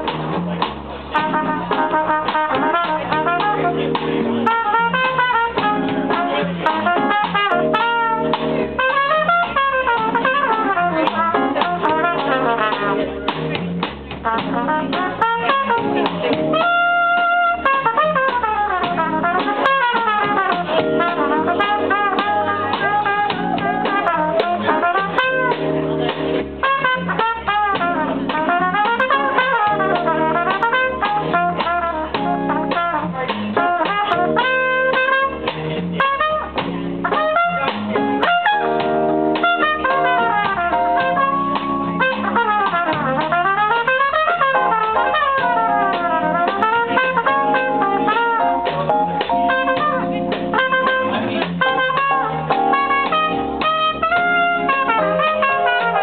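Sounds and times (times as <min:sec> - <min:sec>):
drums: 0:00.0 - 0:56.0
guitar: 0:00.0 - 0:56.0
trumpet melody: 0:01.0 - 0:56.0.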